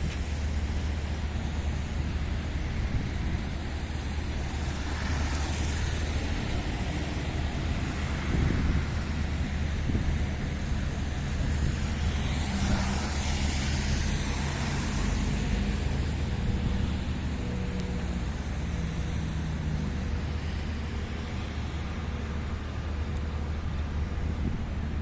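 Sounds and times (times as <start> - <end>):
low rumble of traffic: 0.0 - 25.0
vehicle passing with tyre hiss: 0.0 - 25.0.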